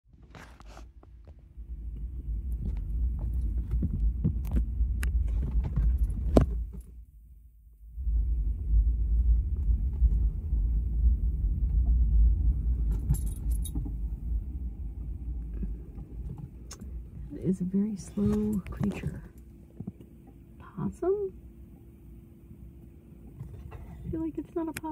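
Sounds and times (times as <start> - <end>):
car cabin rumble: 0.2 - 24.9.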